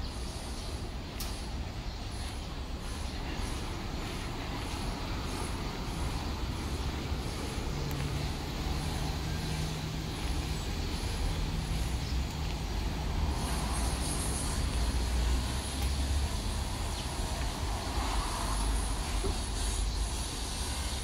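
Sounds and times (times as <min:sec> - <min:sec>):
distant traffic rumble: 0:00.0 - 0:21.0
faint engine hum: 0:00.0 - 0:21.0.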